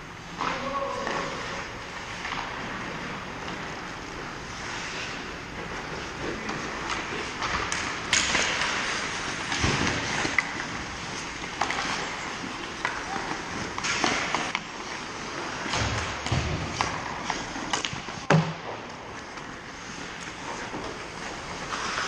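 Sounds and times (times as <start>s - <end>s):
hockey sticks and puck clacking: 0.3s - 22.0s
skates scraping ice: 0.5s - 22.0s.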